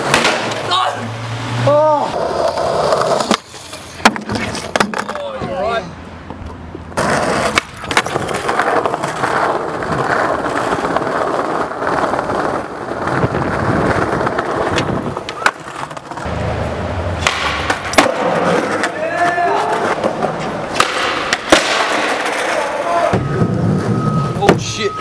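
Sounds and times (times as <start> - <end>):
skateboard clacking on ground: 0.0 - 0.7, 2.1 - 23.9
skateboard wheels rolling on brick: 0.0 - 1.0, 1.6 - 24.8.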